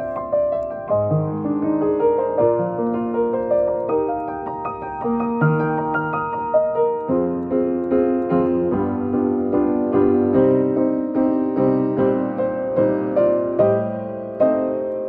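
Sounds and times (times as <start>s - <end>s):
piano playing hymn accompaniment: 0.0s - 15.0s.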